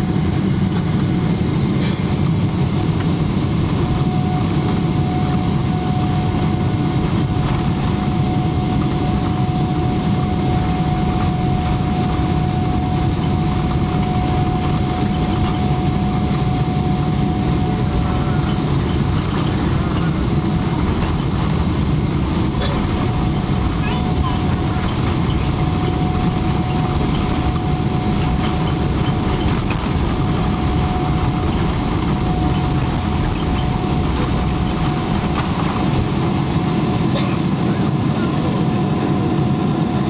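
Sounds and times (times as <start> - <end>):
thin steady whine: 0.0 - 39.2
jet engines rumbling: 0.0 - 40.0.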